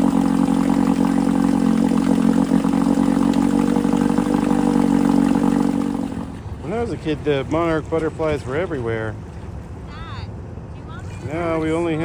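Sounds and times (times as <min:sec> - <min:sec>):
outboard motor running: 0:00.0 - 0:09.7.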